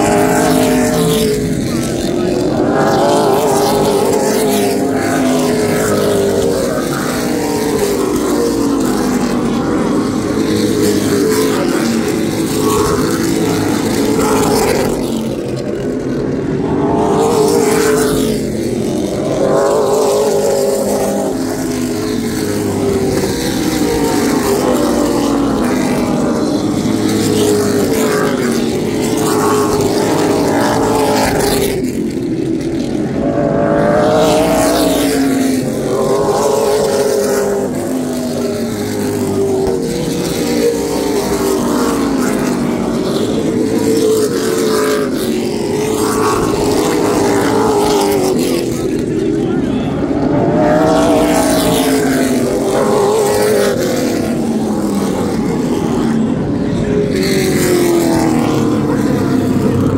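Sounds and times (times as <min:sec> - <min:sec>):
race car engines at speed: 0:00.0 - 0:59.9.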